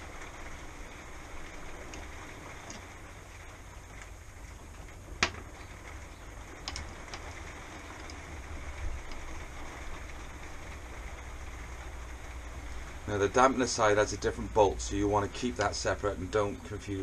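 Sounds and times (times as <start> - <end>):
quiet hiss: 0.0 - 17.0.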